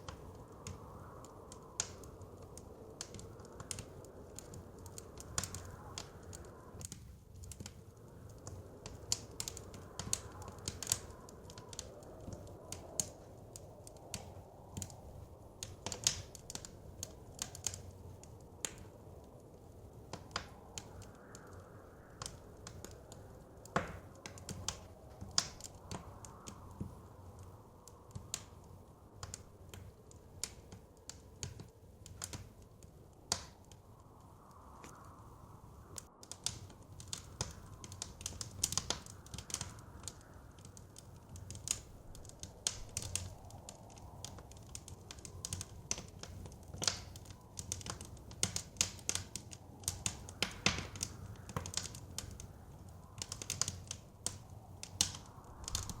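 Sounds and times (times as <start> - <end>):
wind: 0.0 - 56.0
wood fire crackling: 0.0 - 56.0.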